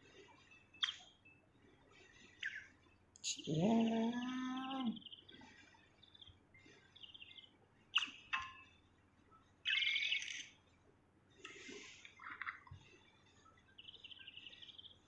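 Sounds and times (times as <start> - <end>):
bird chirping: 0.4 - 1.5, 2.3 - 10.7, 12.2 - 15.0.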